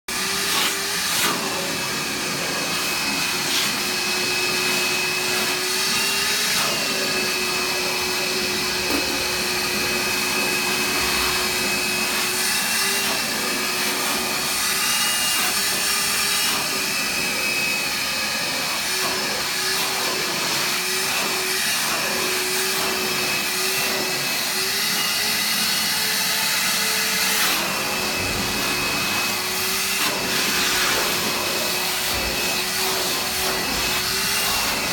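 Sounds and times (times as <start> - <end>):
shop vac motor whine: 0.1 - 34.9.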